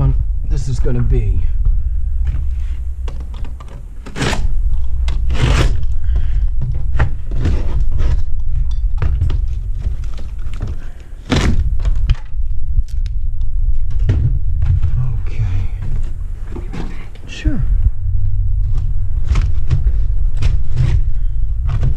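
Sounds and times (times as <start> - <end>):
low rumble: 0.0 - 21.9.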